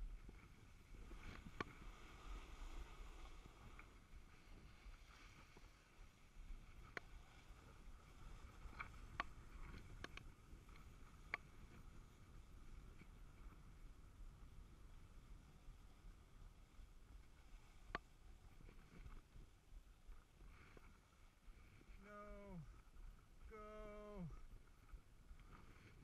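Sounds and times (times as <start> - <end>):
snowboard sliding over snow: 0.0 - 23.4.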